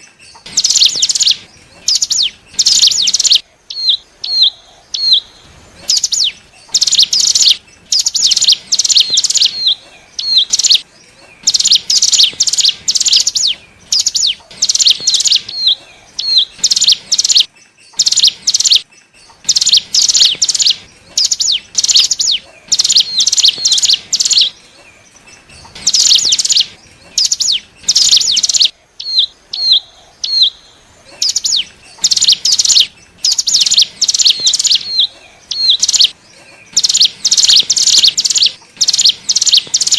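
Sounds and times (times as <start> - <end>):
bird song buzzy high notes: 0.0 - 39.9.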